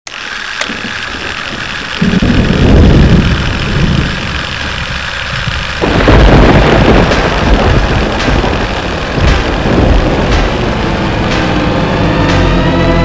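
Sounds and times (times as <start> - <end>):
steady hiss: 0.1 - 12.0
heavy engine rumbling: 0.1 - 13.0.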